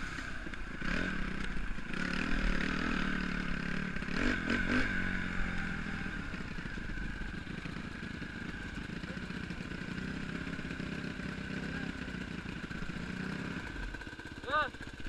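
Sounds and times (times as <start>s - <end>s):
motocross bike engine running: 0.0s - 15.0s.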